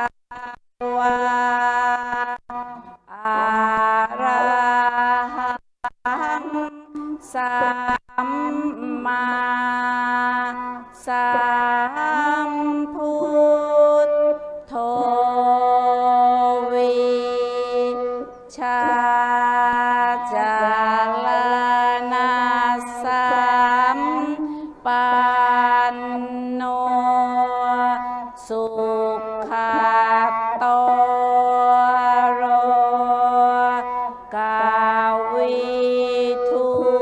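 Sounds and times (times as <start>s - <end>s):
person singing slow mantra: 0.0s - 37.0s.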